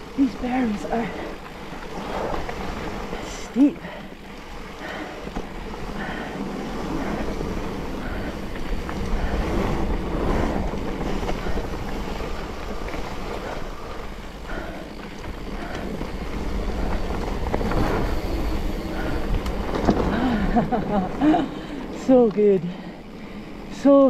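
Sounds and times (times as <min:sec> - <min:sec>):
wind rushing over microphone: 0:00.0 - 0:22.8
bike tyres rolling on dirt: 0:00.0 - 0:24.0.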